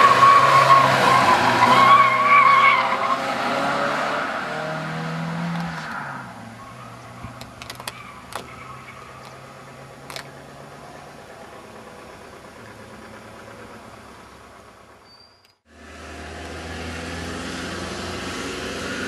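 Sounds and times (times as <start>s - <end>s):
car engine driving away: 0.0s - 19.0s.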